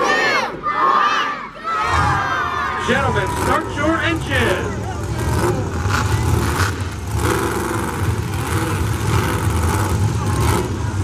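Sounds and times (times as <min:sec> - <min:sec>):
truck engines revving: 0:01.7 - 0:11.0.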